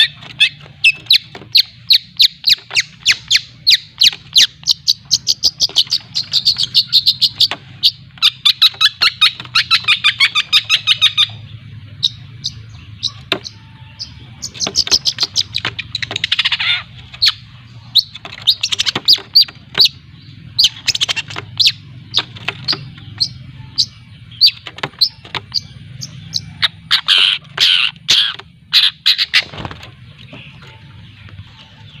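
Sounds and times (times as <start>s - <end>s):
bird chattering and trilling: 0.0s - 32.0s
harsh bird calls: 0.0s - 32.0s.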